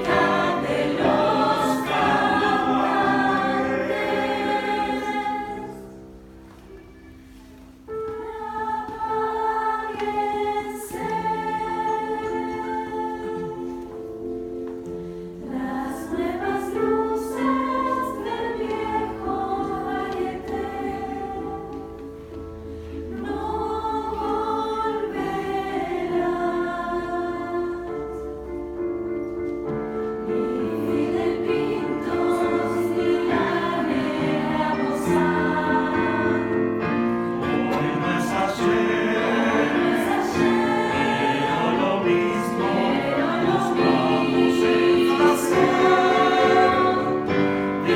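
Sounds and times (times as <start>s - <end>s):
youth choir singing: 0.0s - 6.2s, 7.3s - 14.6s, 15.3s - 29.0s, 29.7s - 47.9s.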